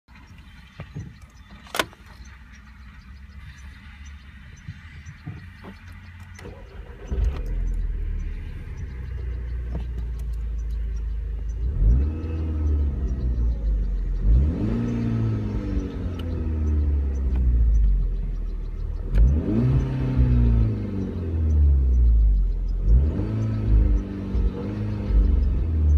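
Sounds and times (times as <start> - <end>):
car engine idling: 0.1 - 25.9
car engine starting: 0.1 - 25.9
engine revving: 2.8 - 25.9.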